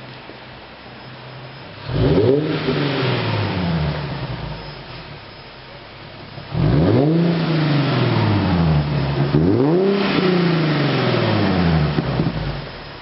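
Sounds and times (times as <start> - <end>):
car engine idling: 0.0 - 13.0
car engine revving: 1.6 - 13.0.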